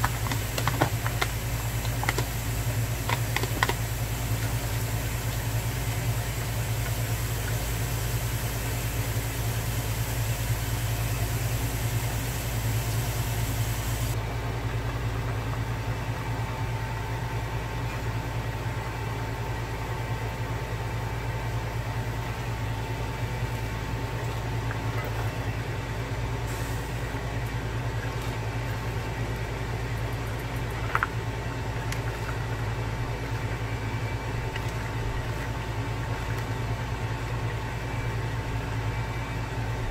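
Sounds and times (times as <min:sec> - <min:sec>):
kitchen appliance humming: 0:00.0 - 0:39.9.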